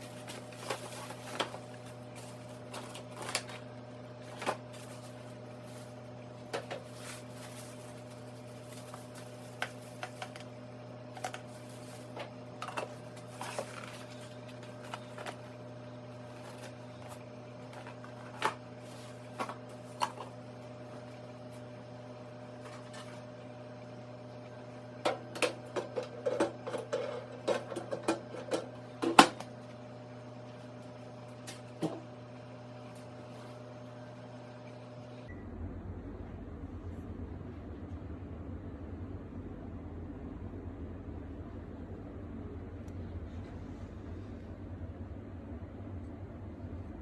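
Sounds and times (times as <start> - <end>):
microwave oven humming: 0.0 - 47.0.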